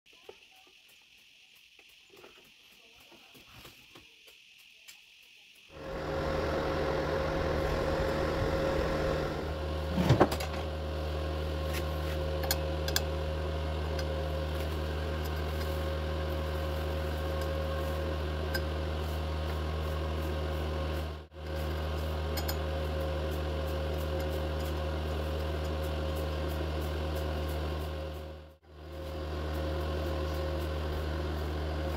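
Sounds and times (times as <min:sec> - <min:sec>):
welding machine humming: 0:05.7 - 0:31.9.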